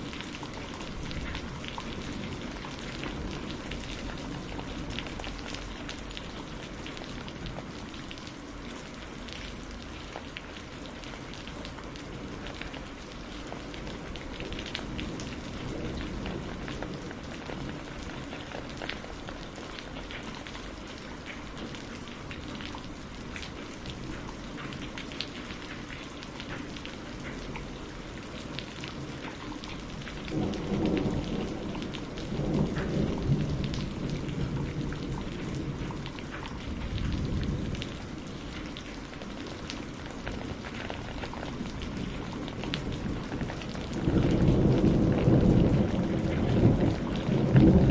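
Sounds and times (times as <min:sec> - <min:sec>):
low rumble of thunder: 0:00.0 - 0:47.9
raindrops ticking on a surface: 0:00.0 - 0:47.9
steady rain falling: 0:00.0 - 0:47.9.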